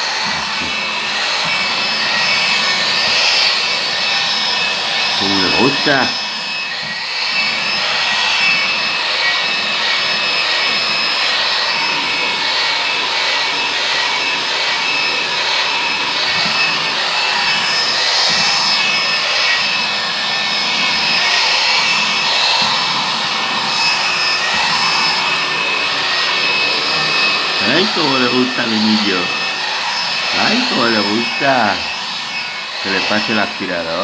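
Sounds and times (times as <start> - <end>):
vacuum cleaner suction whistle: 0.0 - 34.0.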